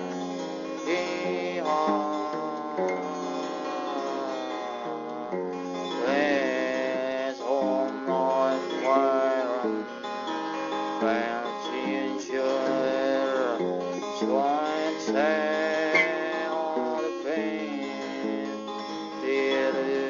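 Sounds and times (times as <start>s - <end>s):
acoustic guitar strumming: 0.0s - 20.0s
sliding melody line: 0.0s - 20.0s.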